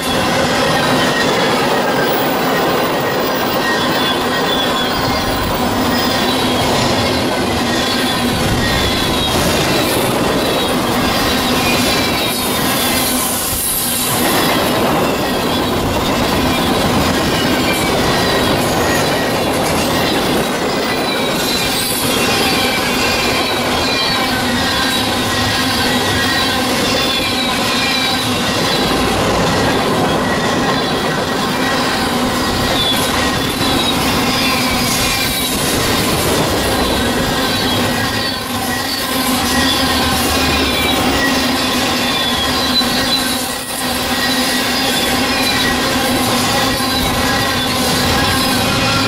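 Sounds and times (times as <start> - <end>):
high wheel squeal: 0.0 - 49.0
train wheels rumbling on rail: 0.0 - 49.0.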